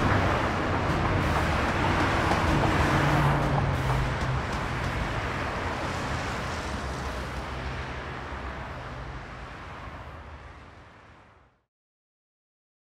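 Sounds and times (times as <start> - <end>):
passing cars: 0.0 - 11.7.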